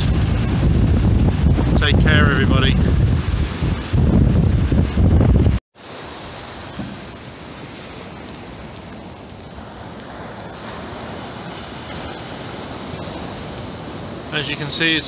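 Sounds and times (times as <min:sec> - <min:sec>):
heavy storm surf: 0:00.0 - 0:15.0
rain falling: 0:00.0 - 0:15.0.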